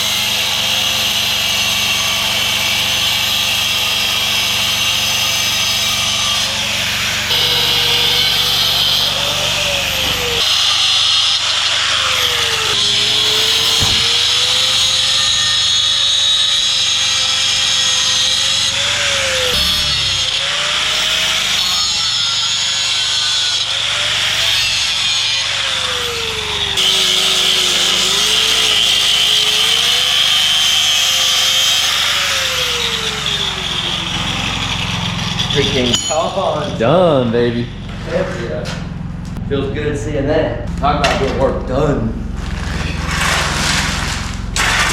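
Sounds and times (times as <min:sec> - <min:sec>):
jackhammer chiseling concrete: 0:00.1 - 0:36.8, 0:42.4 - 0:44.9.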